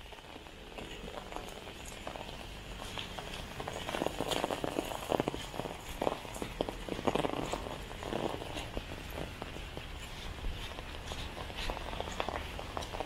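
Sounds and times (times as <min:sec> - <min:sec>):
drizzle pattering on an umbrella: 0:00.0 - 0:13.0
footsteps on wet pavement: 0:00.0 - 0:13.0.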